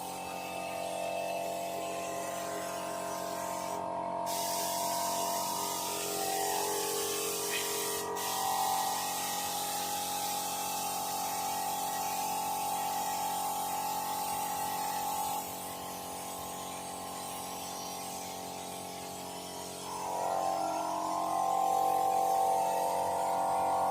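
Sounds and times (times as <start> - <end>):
air spray gun hissing: 0.0 - 23.9.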